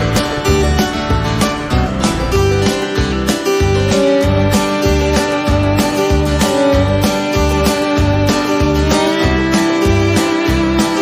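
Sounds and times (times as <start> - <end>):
strummed guitar over beat: 0.0 - 11.0.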